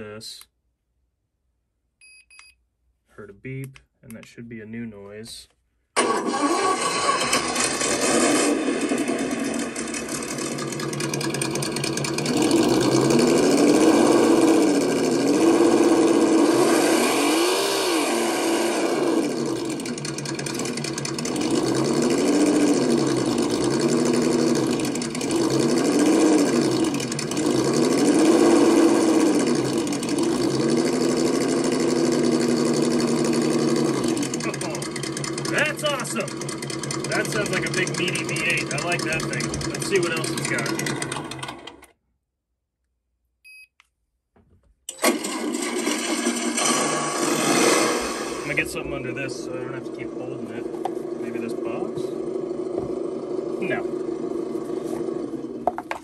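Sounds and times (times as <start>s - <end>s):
simulated engine revving: 6.1s - 41.9s, 45.5s - 55.8s.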